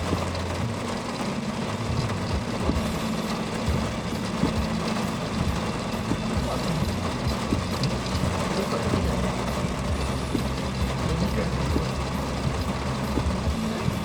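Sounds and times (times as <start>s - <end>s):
car engine hum: 0.0s - 14.0s
road and tyre noise: 0.0s - 14.0s.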